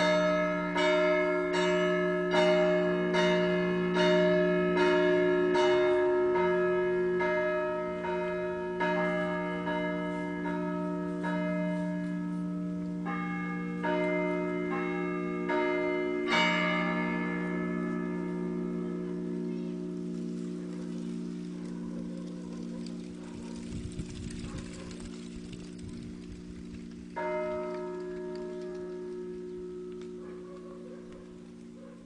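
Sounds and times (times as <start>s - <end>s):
hum of large bells: 0.0s - 32.0s
small church bells struck: 0.0s - 32.0s.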